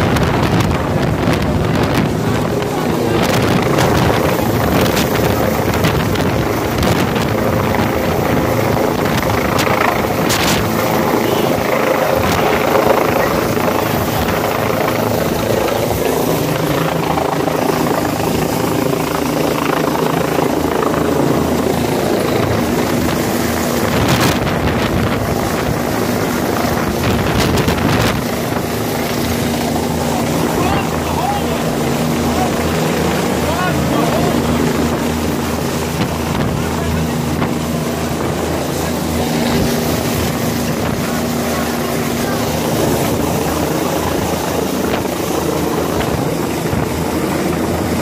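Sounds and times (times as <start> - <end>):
helicopter hovering overhead: 0.0 - 48.0.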